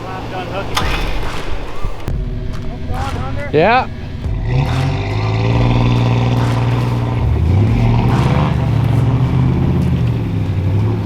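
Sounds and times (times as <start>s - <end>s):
truck engine under load: 0.0s - 11.0s.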